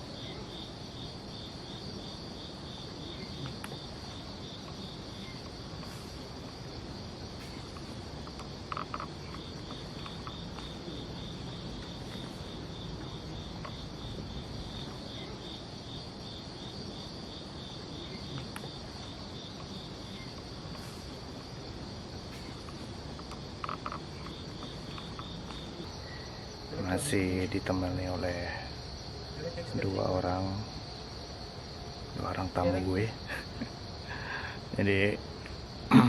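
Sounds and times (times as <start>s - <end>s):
crickets chirring: 0.0s - 36.0s
pulsing insect call: 0.0s - 36.0s.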